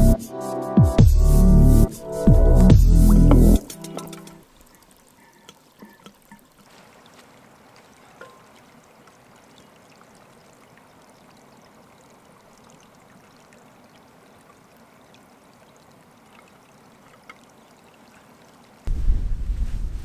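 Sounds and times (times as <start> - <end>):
faint running water: 2.1 - 18.9.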